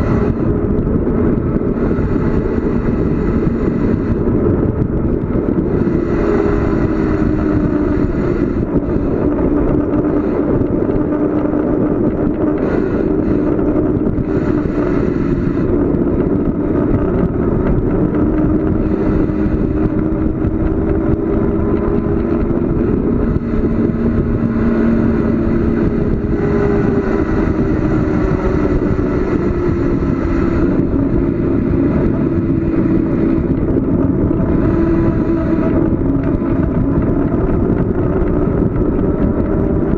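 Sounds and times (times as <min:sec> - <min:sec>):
faint hum drifting in pitch: 0:00.0 - 0:39.9
wind and road noise: 0:00.0 - 0:39.9.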